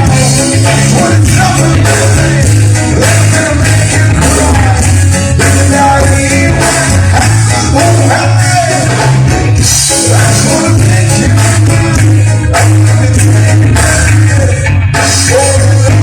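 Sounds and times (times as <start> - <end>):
loud band music: 0.0 - 16.0
person singing: 0.0 - 16.0.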